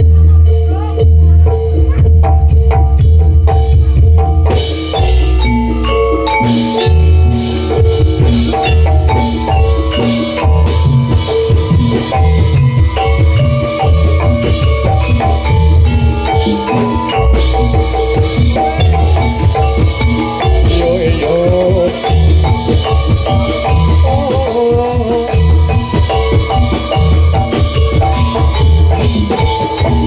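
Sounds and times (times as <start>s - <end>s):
drums: 0.0s - 30.0s
heavy low beat: 0.0s - 30.0s
metallophones playing fast melody: 0.0s - 30.0s.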